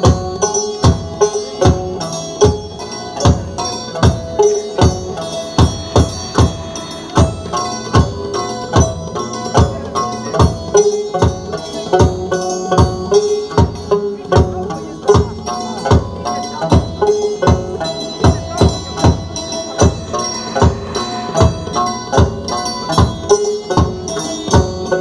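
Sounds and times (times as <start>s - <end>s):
held melodic line: 0.0s - 25.0s
steady drum beat: 0.0s - 25.0s.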